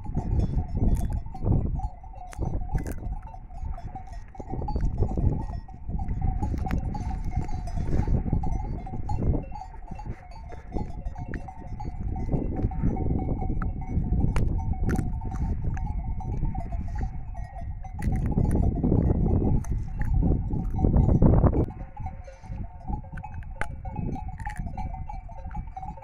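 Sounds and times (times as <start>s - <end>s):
low rumble on microphone: 0.0s - 26.0s.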